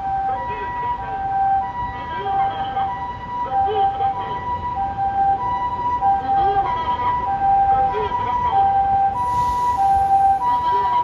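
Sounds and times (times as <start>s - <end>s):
road traffic: 0.0s - 11.0s
two-tone ambulance siren: 0.0s - 11.0s.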